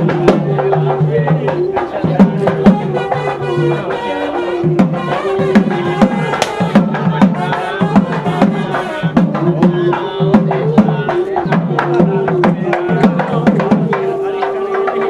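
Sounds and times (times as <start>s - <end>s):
hand drum strokes: 0.0s - 15.0s
wavering melody: 0.0s - 15.0s.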